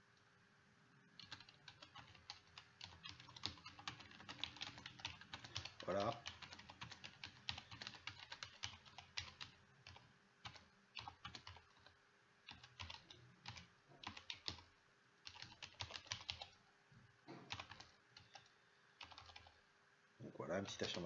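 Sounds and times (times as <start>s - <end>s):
faint keyboard typing: 1.1s - 16.7s, 17.3s - 19.6s, 20.6s - 21.0s.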